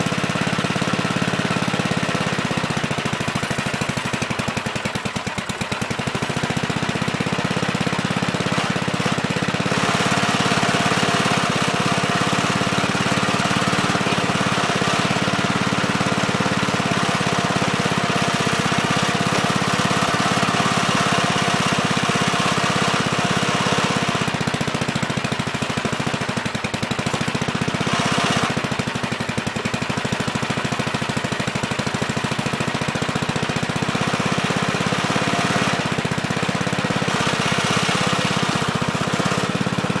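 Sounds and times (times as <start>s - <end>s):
backhoe engine running: 0.0s - 40.0s.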